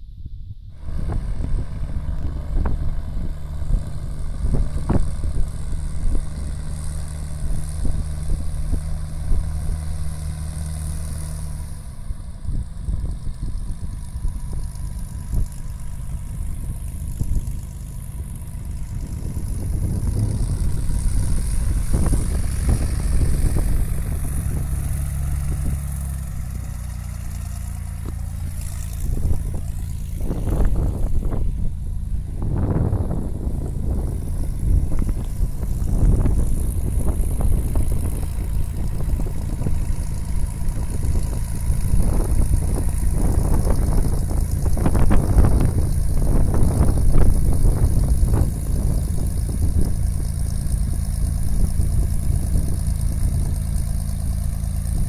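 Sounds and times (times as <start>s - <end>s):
light airplane engine and propeller: 0.0s - 55.0s.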